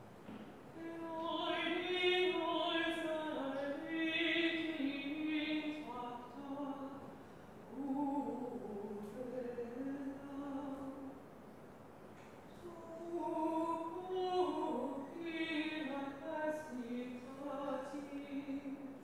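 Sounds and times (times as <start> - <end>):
woman singing plainchant: 0.8 - 7.1, 7.7 - 11.1, 12.5 - 19.0.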